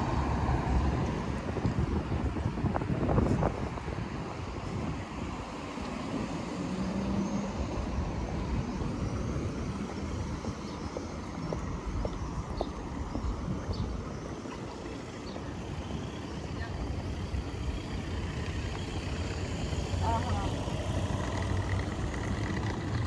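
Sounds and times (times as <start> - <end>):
engine hum: 0.0 - 23.0
street traffic rumble: 0.0 - 23.0.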